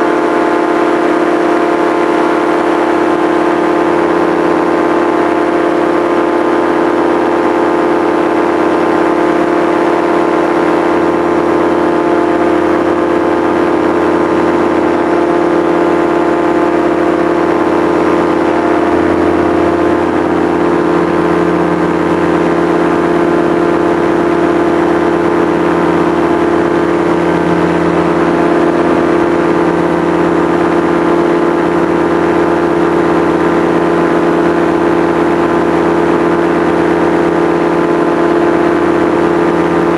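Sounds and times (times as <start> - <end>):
small aircraft engine droning: 0.0 - 39.9.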